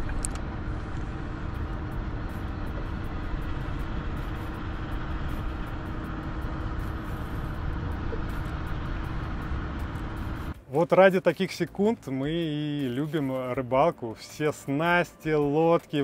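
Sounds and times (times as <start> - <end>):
low engine rumble: 0.0 - 14.3.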